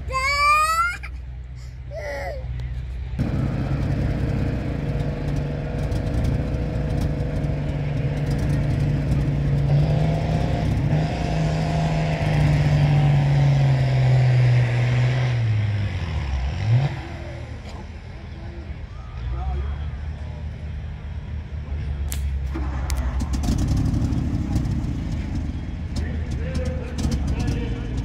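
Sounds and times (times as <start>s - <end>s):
engine running and revving: 2.5s - 28.0s.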